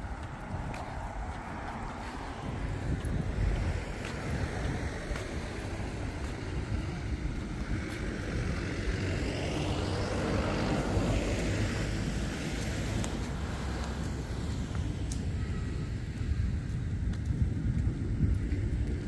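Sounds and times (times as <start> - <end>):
vehicle passing: 0.0 - 16.4
low outdoor rumble: 0.0 - 19.0.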